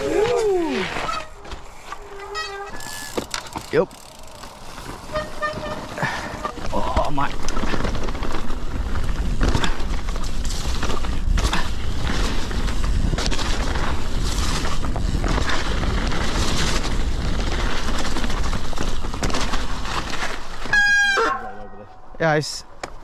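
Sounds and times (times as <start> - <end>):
bike rattling: 0.0 - 23.0.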